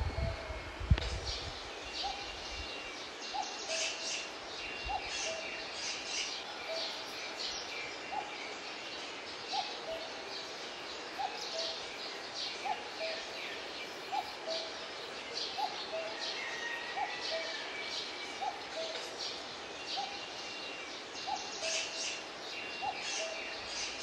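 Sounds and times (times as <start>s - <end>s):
birds chirping: 1.4s - 24.0s.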